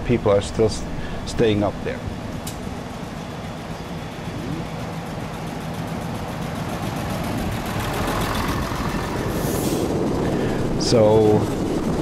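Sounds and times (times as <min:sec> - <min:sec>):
railcar engine humming: 0:00.0 - 0:12.0
railcar rolling noise: 0:00.0 - 0:12.0.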